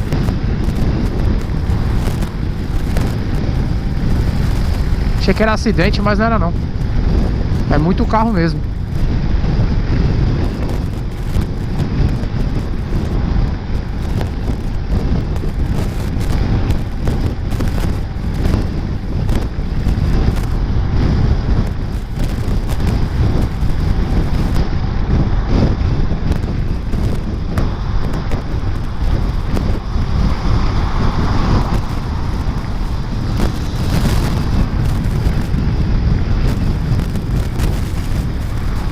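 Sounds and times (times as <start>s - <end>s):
scooter low drone: 0.0s - 38.9s
wind buffeting microphone: 0.0s - 38.9s.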